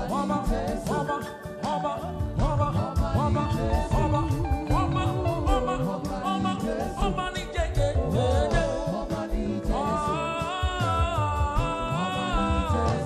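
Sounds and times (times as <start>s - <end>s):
gospel band with bass and drums: 0.0s - 13.0s
person singing: 0.0s - 13.0s.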